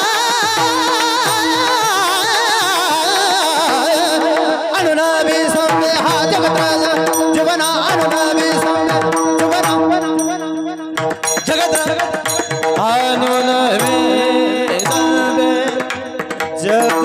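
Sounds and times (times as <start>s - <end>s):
sharp percussion: 0.0s - 17.0s.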